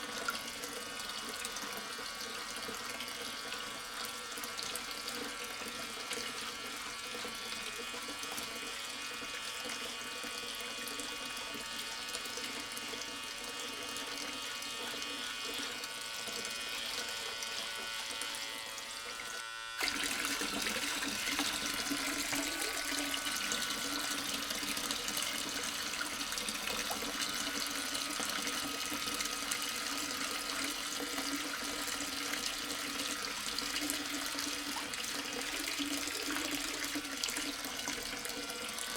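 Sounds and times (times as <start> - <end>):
water splashing from pump: 0.0 - 38.9.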